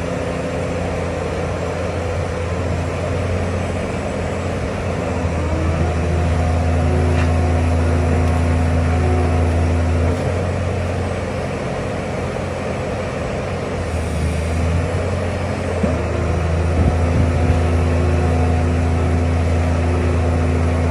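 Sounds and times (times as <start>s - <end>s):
heavy diesel engine droning: 0.0s - 20.9s.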